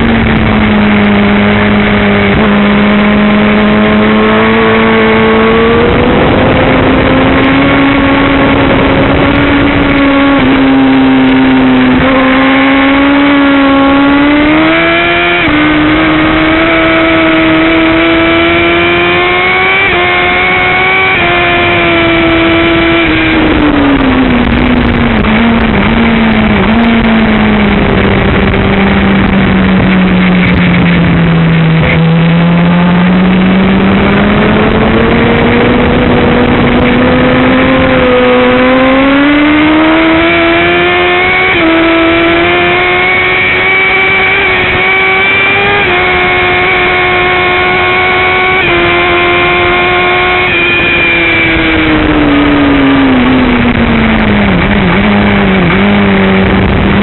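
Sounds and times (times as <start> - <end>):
sportbike engine racing: 0.0 - 57.0
wind rush: 0.0 - 57.0.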